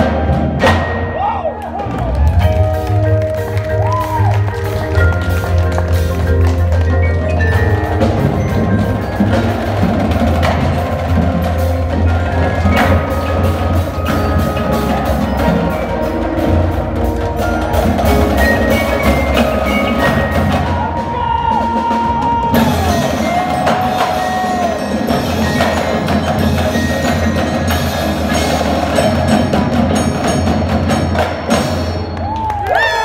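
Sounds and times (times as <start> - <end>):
drums: 0.0 - 33.0
marimbas and mallet keyboards: 0.0 - 33.0.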